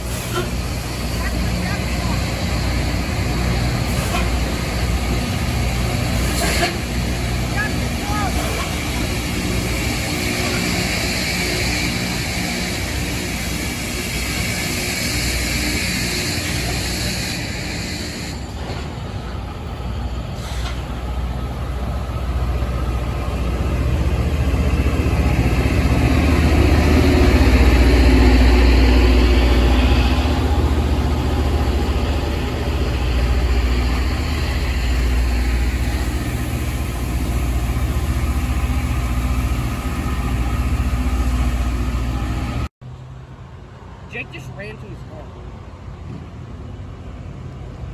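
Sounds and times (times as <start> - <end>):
train engines rumbling: 0.0 - 47.9.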